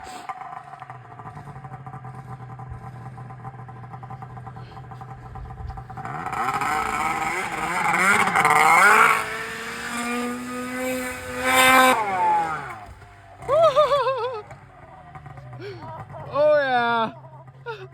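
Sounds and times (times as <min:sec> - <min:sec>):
snowmobile engine revving: 0:00.0 - 0:17.9.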